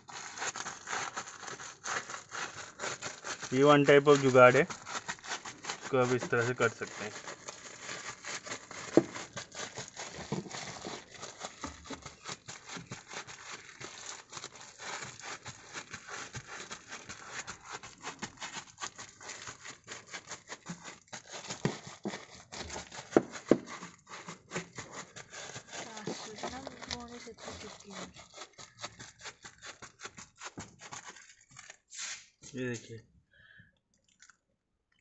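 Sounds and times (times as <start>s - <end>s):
sticky plastic crackling on carpet: 0.0s - 32.8s.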